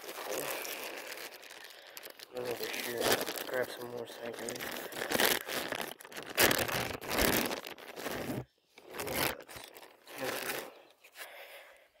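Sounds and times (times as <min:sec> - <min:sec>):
rustling and crinkling handling: 0:00.0 - 0:11.3.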